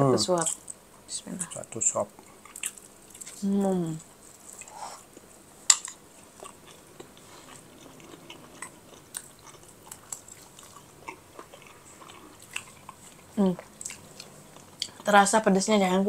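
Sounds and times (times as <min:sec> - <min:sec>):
person chewing food: 0:01.4 - 0:03.4, 0:04.1 - 0:15.1.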